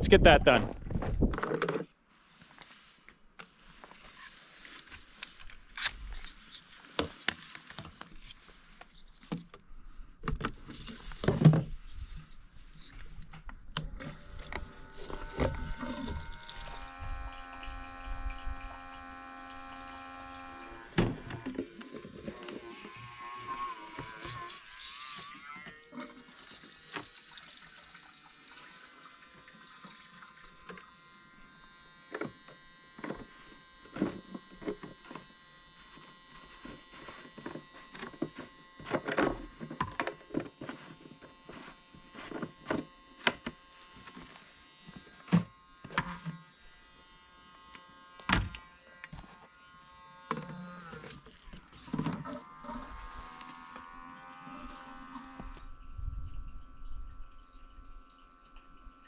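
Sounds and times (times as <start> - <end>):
small electric motor whining: 3.8 - 9.5, 10.2 - 59.0.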